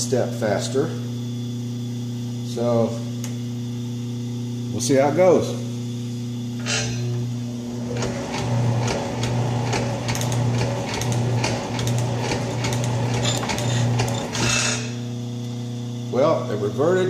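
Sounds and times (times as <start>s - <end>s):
metal shaper motor hum: 0.0s - 17.0s.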